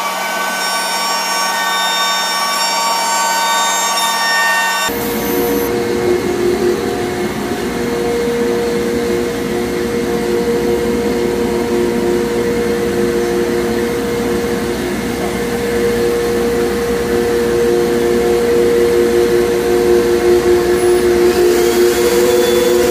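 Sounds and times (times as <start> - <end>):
cnc router machining: 0.0 - 22.9.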